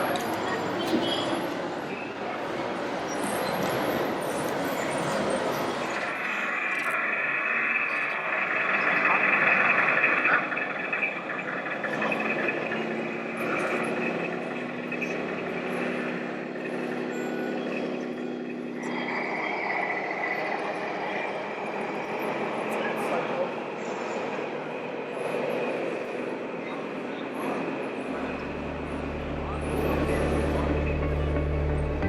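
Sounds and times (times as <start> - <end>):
model trucks engine hum: 0.0 - 32.0.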